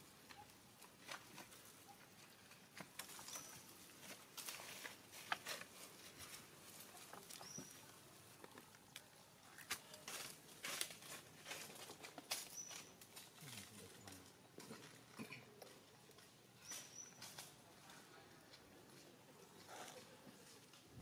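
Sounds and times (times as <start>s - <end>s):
crackling dry leaf litter: 0.4s - 21.0s.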